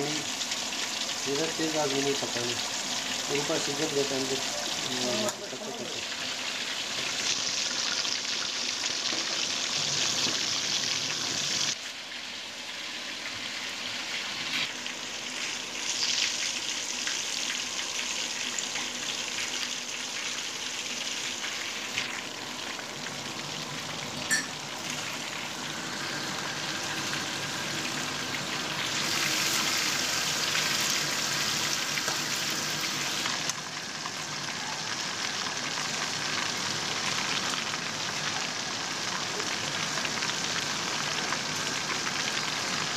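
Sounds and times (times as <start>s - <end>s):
fish deep-frying sizzle: 0.0s - 42.9s.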